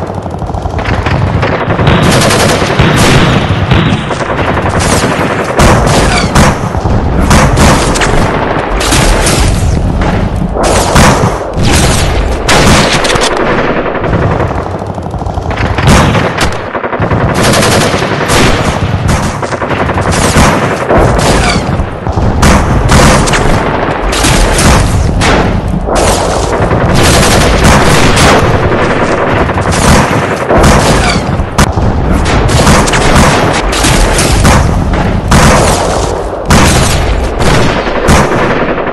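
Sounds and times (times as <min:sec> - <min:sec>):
rapid gunfire: 0:00.0 - 0:38.9.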